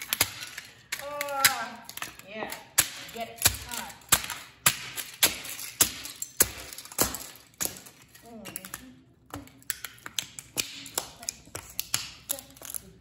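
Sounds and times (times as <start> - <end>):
toy cars cracking: 0.0 - 13.0.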